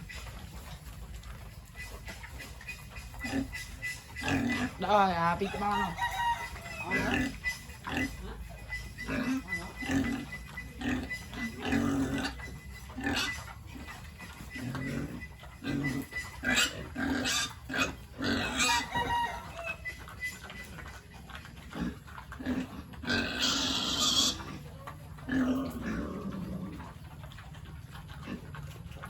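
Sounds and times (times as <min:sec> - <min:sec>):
pigs grunting and oinking: 0:00.0 - 0:29.0.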